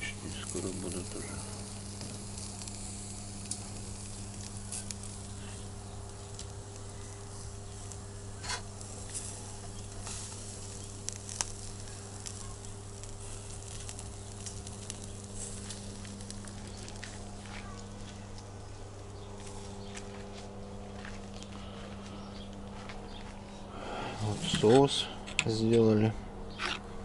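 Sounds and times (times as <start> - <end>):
meat sizzling over coals: 0.0 - 21.7
sharp crackles and pops: 0.0 - 23.5
steady low hum: 0.0 - 27.0.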